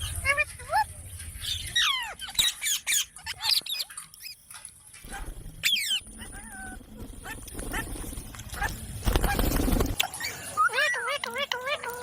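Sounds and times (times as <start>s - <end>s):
parrot squawking and chirping: 0.0s - 7.9s, 10.0s - 12.0s.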